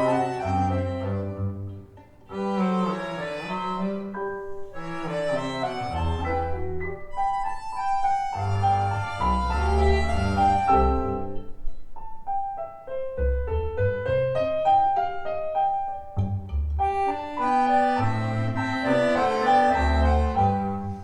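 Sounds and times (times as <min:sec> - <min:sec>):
tango music over speakers: 0:00.0 - 0:21.0.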